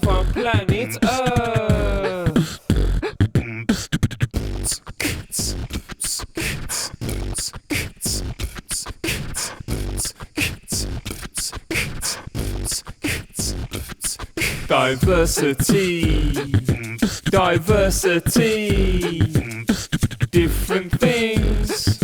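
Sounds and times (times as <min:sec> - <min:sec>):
beatboxing: 0:00.0 - 0:22.0.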